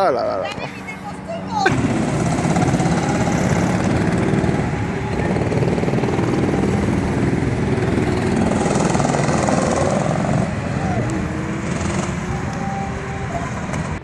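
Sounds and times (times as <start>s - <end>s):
go-kart engines running: 0.0s - 14.0s.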